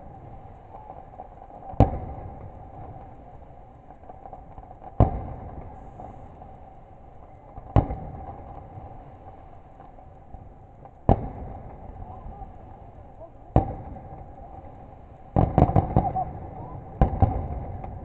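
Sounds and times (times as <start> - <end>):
faint steady hum: 0.0 - 18.0
fireworks exploding: 0.0 - 18.0.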